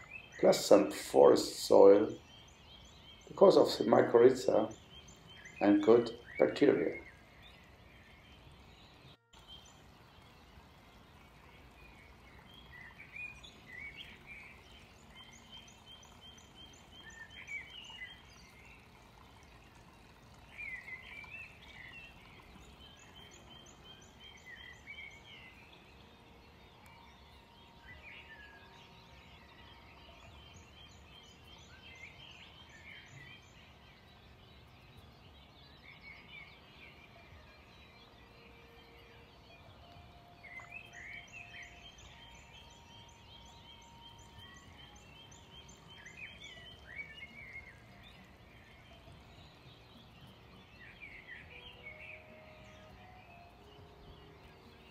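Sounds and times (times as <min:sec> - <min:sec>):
outdoor background hiss: 0:00.0 - 0:54.9
songbirds chirping and trilling: 0:00.0 - 0:54.9.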